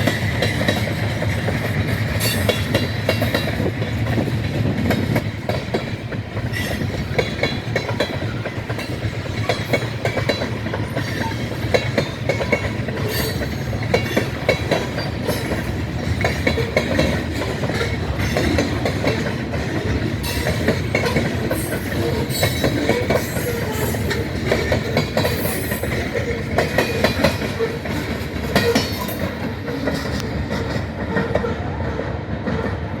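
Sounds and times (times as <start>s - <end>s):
wheels clanking over rail joints: 0.0s - 31.6s
freight train rumbling past: 0.0s - 33.0s.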